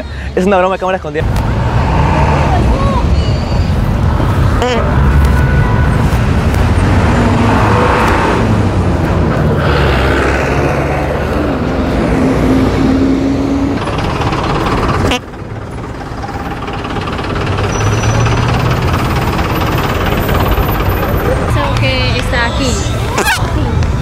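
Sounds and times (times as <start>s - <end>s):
bus and car engines: 0.0s - 24.0s.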